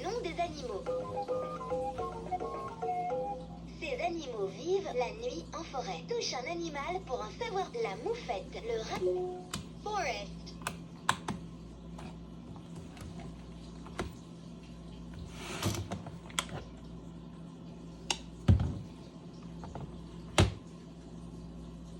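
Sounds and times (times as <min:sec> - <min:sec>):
faint low hum: 0:00.0 - 0:21.9.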